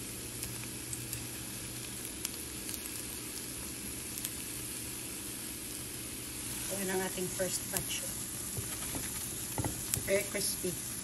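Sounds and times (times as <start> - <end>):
plantain sizzling in frying oil: 0.0 - 11.0.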